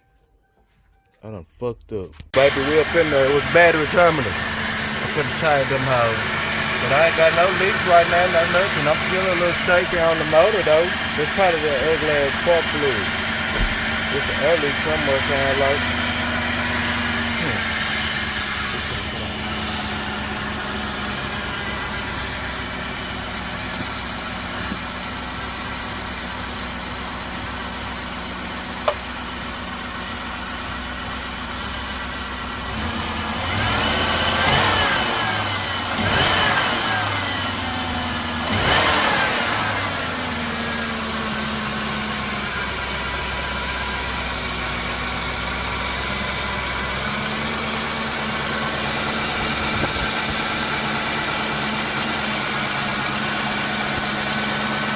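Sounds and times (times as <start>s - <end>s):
car engine idling: 2.3s - 54.9s
car engine revving: 2.4s - 27.6s, 32.4s - 54.9s.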